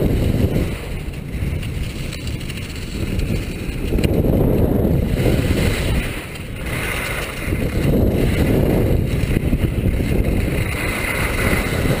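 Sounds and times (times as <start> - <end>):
skis sliding over snow: 0.0 - 12.0
wind rushing over microphone: 0.0 - 12.0.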